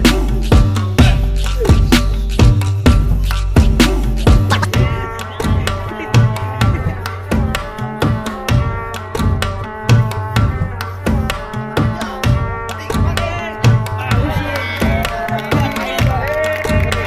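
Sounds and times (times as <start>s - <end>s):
percussion beat: 0.0s - 17.0s.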